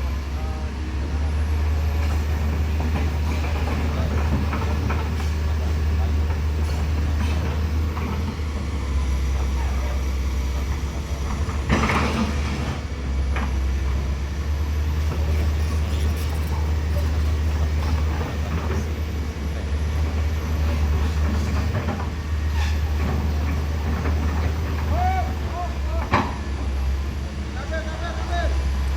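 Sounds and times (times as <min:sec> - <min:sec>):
heavy vehicle engine rumbling: 0:00.0 - 0:28.9.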